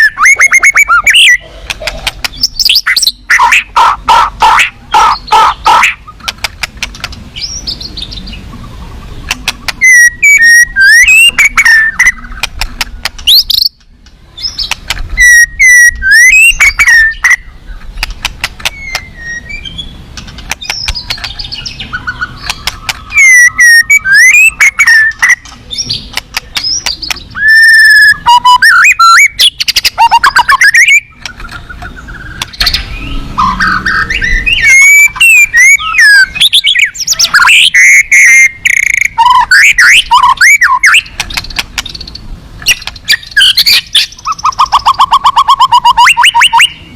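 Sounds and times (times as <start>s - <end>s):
songbird singing whistles and trills: 0.0s - 1.4s, 2.3s - 3.4s, 9.6s - 17.8s, 18.6s - 20.0s, 20.6s - 46.9s.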